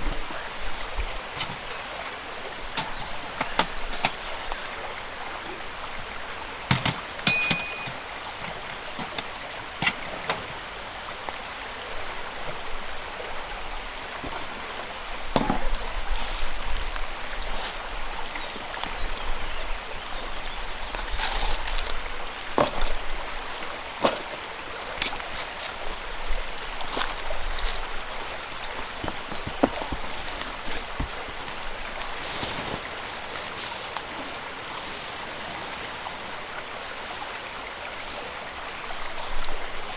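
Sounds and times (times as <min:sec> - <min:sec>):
high insect drone: 0:00.0 - 0:39.9
river flowing: 0:00.0 - 0:39.9.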